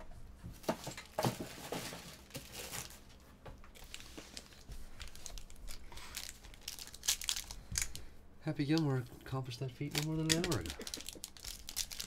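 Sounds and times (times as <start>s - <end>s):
foil wrappers crinkling: 0.8s - 9.0s, 9.8s - 12.0s.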